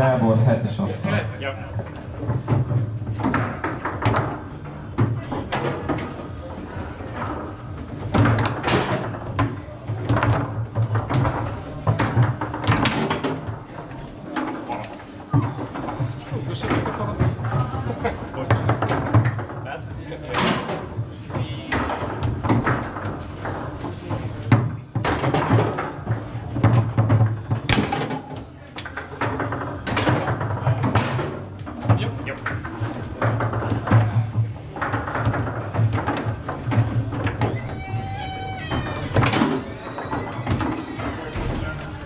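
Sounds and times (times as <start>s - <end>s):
foosball ball knocks and clacks: 1.8s - 42.0s.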